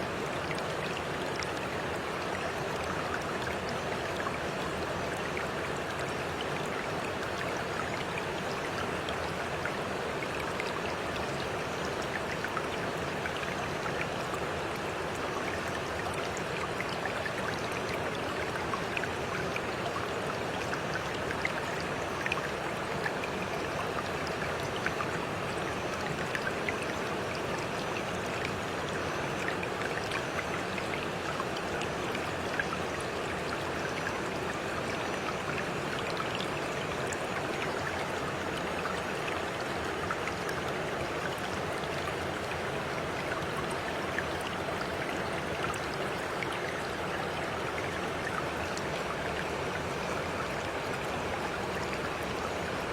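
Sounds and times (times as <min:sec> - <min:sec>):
stream babbling: 0:00.0 - 0:52.9.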